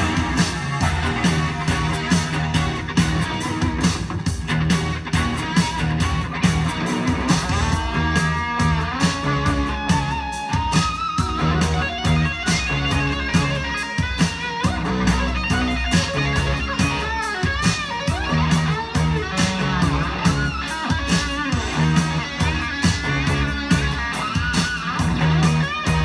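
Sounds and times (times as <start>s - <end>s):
rock music over loudspeakers: 0.0s - 26.0s.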